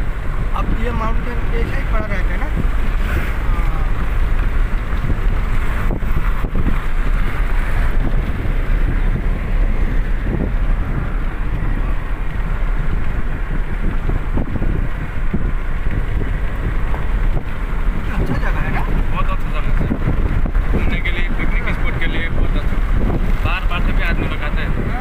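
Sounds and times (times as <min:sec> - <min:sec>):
vehicle road and engine rumble: 0:00.0 - 0:25.0
wind noise on microphone: 0:00.0 - 0:25.0.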